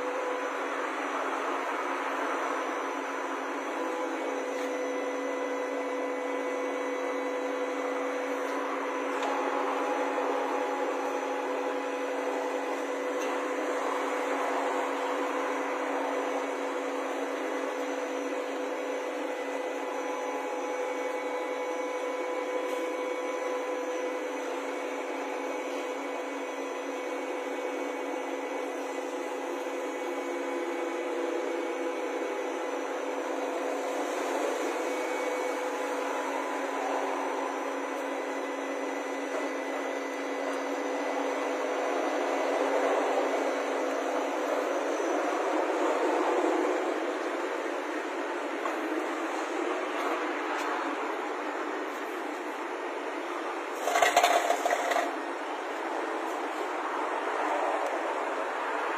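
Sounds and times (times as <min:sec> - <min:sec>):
lathe machine drone: 0:00.0 - 0:58.9.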